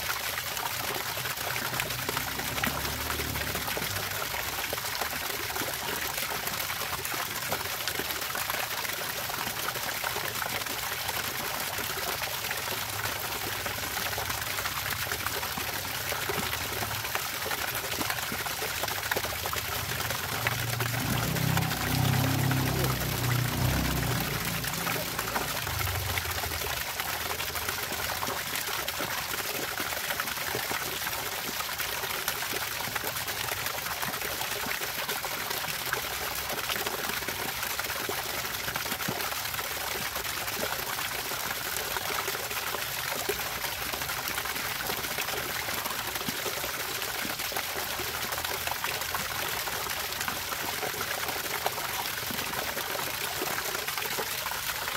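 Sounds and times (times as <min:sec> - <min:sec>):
water trickling: 0:00.0 - 0:54.9.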